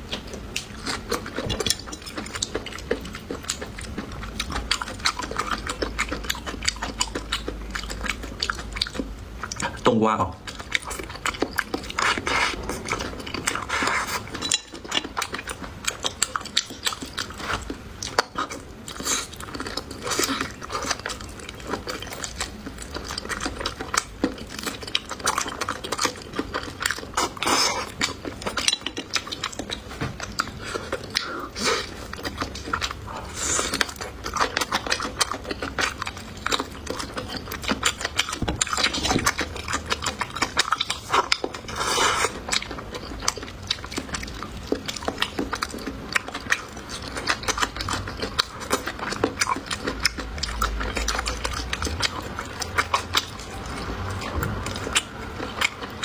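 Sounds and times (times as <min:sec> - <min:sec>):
chewing with wet mouth clicks: 0:00.0 - 0:56.0.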